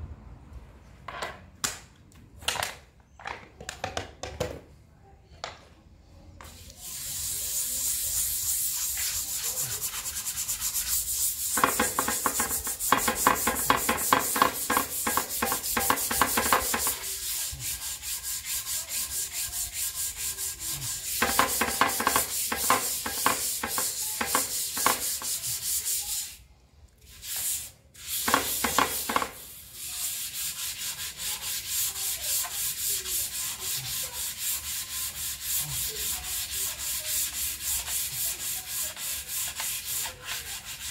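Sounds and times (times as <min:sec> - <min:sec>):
sandpaper rubbing on wet metal: 0:06.5 - 0:26.4, 0:27.0 - 0:40.9.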